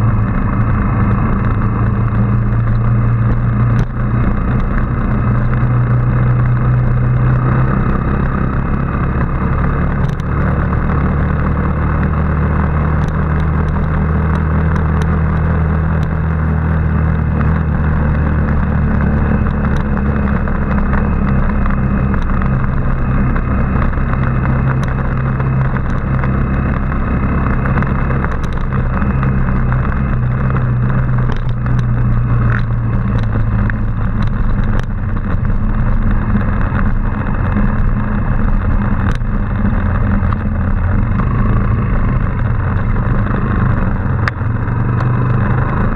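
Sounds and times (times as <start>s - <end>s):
motorbike engine running: 0.0s - 45.9s
road and air noise: 0.0s - 45.9s.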